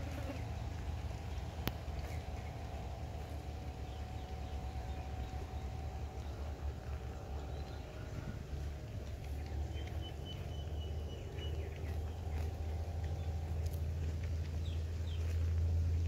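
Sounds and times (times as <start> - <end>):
steady low hum: 0.0 - 16.0
faint scattered clicks: 0.3 - 15.8.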